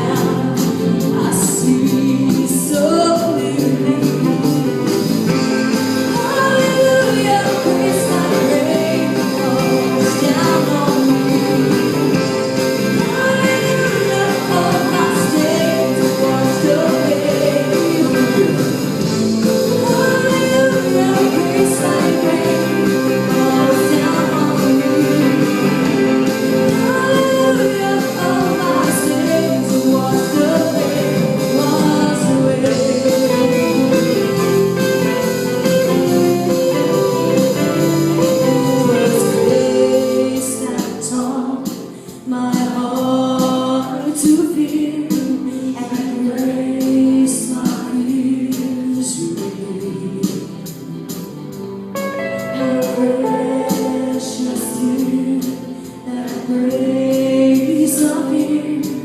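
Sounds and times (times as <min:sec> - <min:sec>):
guitar: 0:00.0 - 0:59.0
worship band playing: 0:00.0 - 0:59.0.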